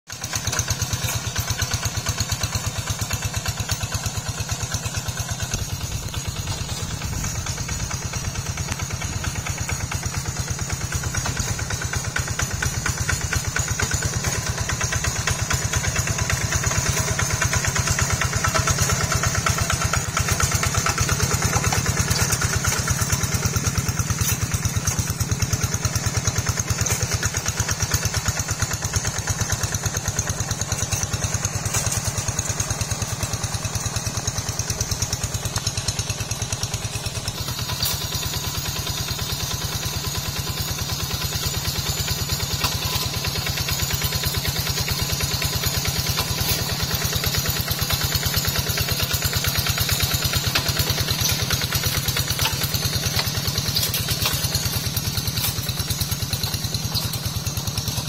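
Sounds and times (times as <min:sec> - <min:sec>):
hand tractor diesel engine chugging: 0:00.1 - 0:58.0.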